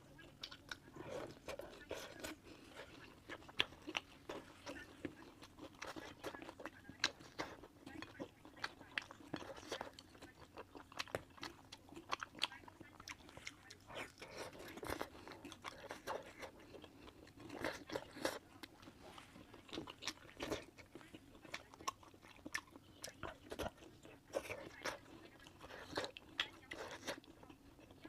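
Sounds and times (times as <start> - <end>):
person chewing and biting: 0.4 - 28.0.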